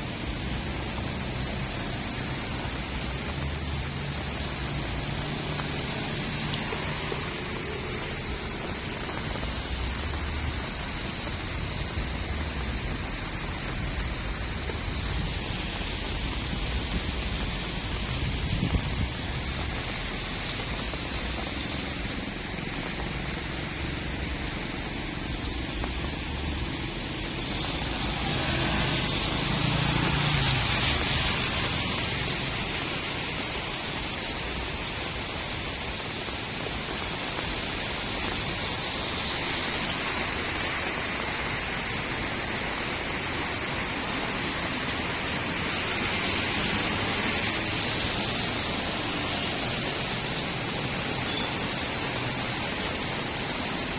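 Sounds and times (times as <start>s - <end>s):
rain falling on a street: 0.0s - 53.9s.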